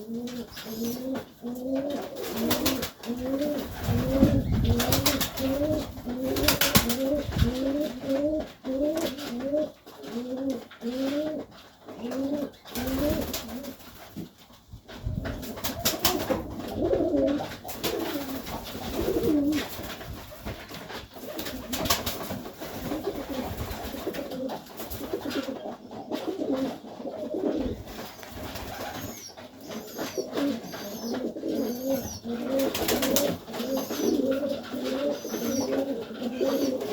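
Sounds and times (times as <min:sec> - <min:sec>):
pigeons cooing: 0:00.0 - 0:13.8, 0:15.2 - 0:19.8, 0:22.7 - 0:36.9.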